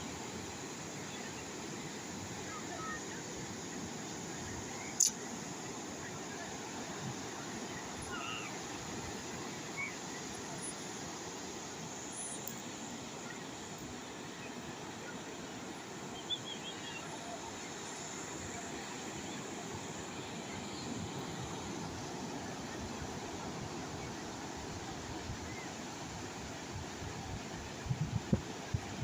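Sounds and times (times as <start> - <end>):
calm sea waves: 0.0 - 29.0.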